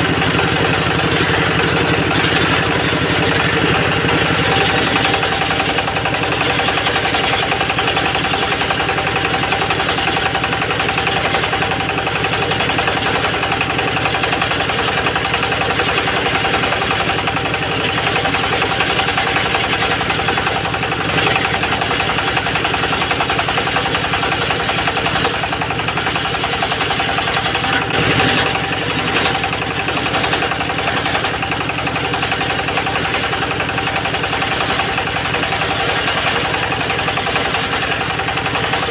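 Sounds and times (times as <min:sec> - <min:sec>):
small petrol engine running: 0:00.0 - 0:38.9.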